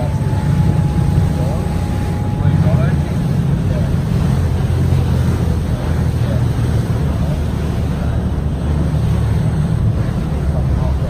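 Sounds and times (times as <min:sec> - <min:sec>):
boat engine drone: 0:00.0 - 0:11.0
water rushing past hull: 0:00.0 - 0:11.0
wind buffeting microphone: 0:00.0 - 0:11.0.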